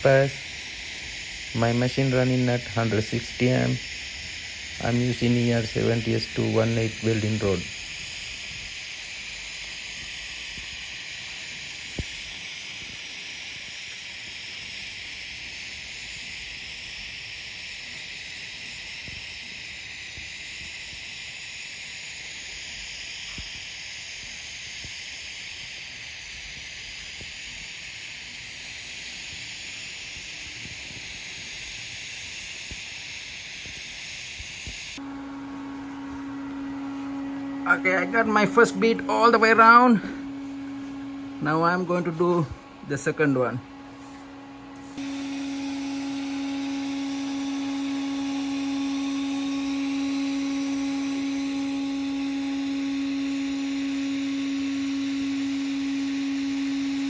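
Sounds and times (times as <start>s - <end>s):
welding arc hissing: 0.0s - 57.0s.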